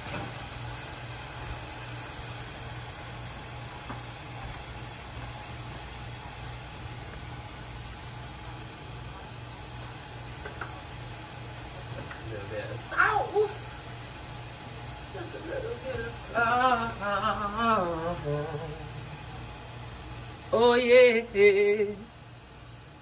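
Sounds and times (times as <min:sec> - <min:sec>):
chicken sizzling in a pan: 0:00.0 - 0:23.0
low steady hum: 0:00.0 - 0:23.0.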